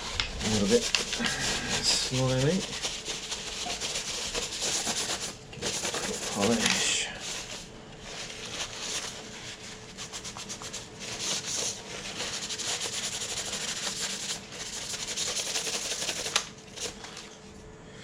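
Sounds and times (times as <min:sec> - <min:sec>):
rapid rubbing strokes: 0:00.0 - 0:17.0.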